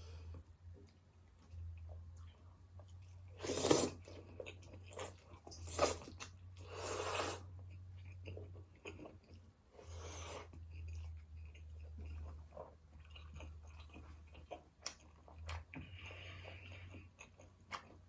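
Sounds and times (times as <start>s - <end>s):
person chewing and crunching food: 0.0s - 18.0s.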